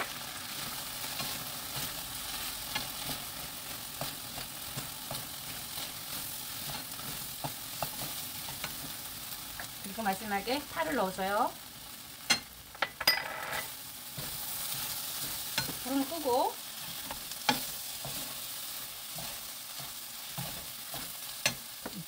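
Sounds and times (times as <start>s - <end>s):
onions sizzling in a frying pan: 0.0s - 22.0s.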